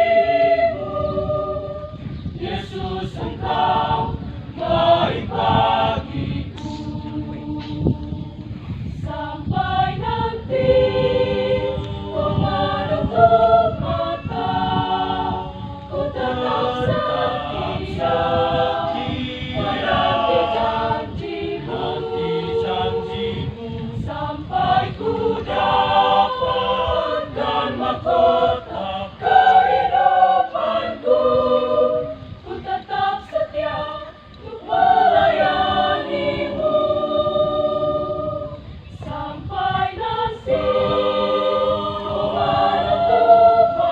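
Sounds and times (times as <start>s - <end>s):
choir singing gospel song: 0.0s - 43.9s.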